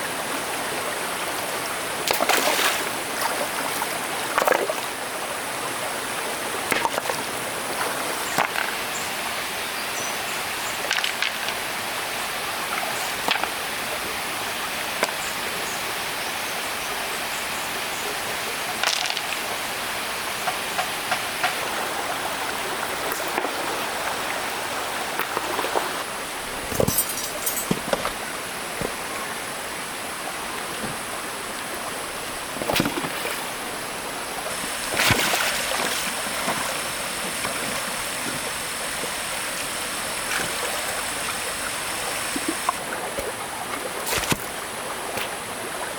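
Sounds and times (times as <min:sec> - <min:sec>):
stream water flowing: 0:00.0 - 0:45.9.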